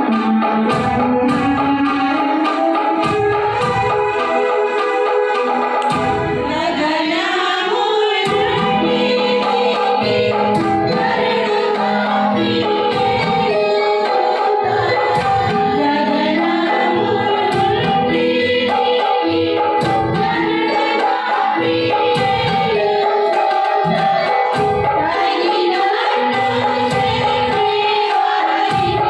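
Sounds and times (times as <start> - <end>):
percussion beating steady rhythm: 0.0 - 29.0
women singing into microphones: 0.0 - 29.0.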